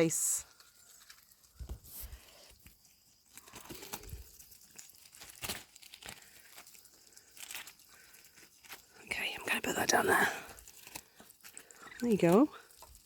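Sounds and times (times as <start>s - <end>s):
ducks tearing lettuce leaves: 0.4s - 9.0s, 10.0s - 13.0s.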